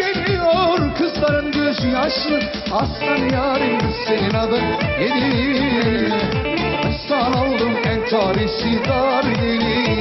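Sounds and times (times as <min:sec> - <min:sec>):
lively folk-pop music: 0:00.0 - 0:10.0.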